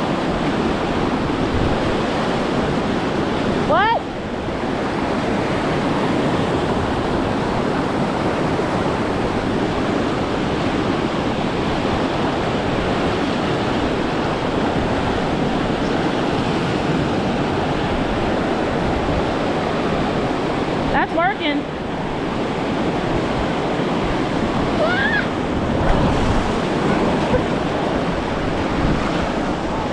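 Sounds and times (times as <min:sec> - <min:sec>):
river water rushing through rapids: 0:00.0 - 0:29.9.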